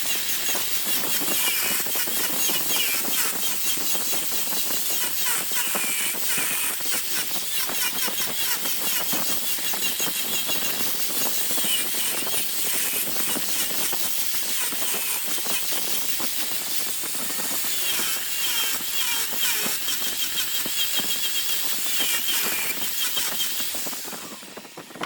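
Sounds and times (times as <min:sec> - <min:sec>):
wood lathe hissing with clicks: 0:00.0 - 0:25.0.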